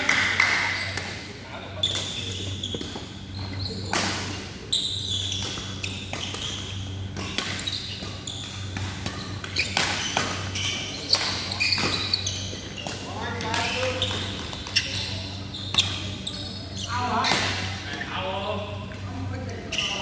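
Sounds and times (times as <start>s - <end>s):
low hum in echoing hall: 0.0s - 20.0s
shoes squeaking on court floor: 0.0s - 20.0s.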